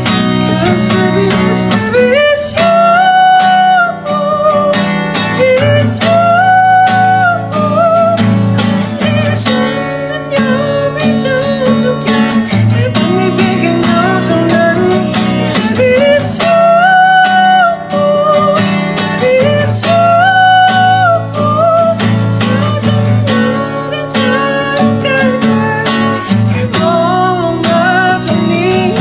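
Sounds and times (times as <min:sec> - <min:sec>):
acoustic guitar strumming: 0:00.0 - 0:29.0
man singing: 0:00.0 - 0:29.0.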